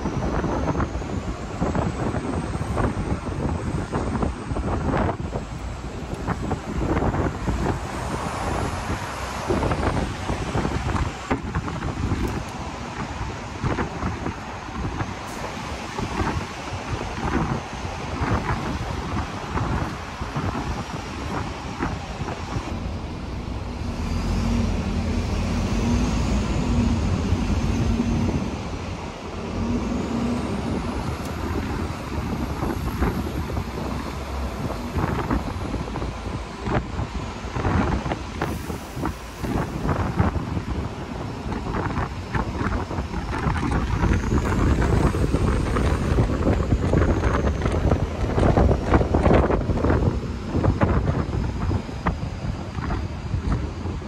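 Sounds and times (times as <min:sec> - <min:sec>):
bus engine and road rumble: 0:00.0 - 0:54.0
wind buffeting microphone: 0:00.0 - 0:54.0.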